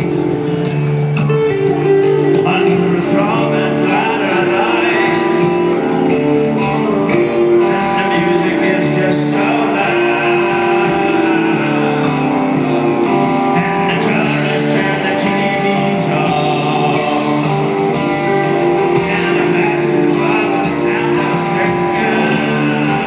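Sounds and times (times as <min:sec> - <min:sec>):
electric guitars: 0:00.0 - 0:23.0
live rock band playing: 0:00.0 - 0:23.0.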